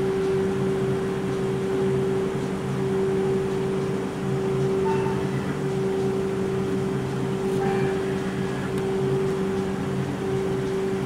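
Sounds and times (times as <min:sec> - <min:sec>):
ice cream machine humming: 0:00.0 - 0:11.0.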